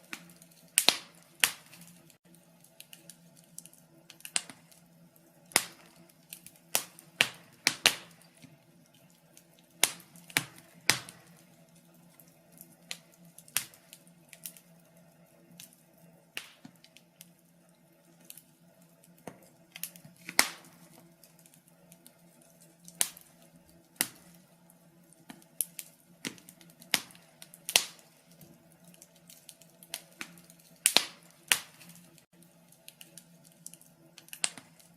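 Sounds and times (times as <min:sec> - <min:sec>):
fire popping: 0:00.0 - 0:34.9
wood fire crackling: 0:00.0 - 0:34.9.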